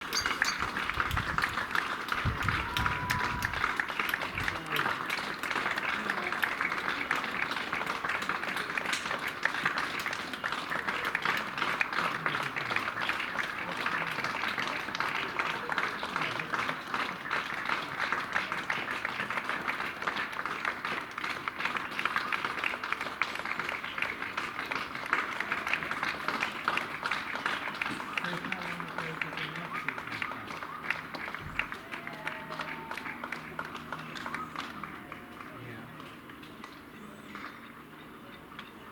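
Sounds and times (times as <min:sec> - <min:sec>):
crowd applauding: 0:00.0 - 0:38.9.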